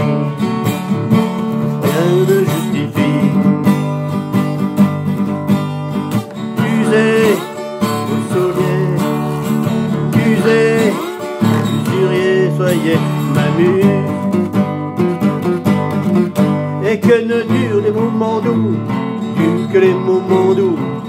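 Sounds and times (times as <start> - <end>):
acoustic guitar strumming: 0.0 - 21.0
slide guitar melody: 0.0 - 21.0.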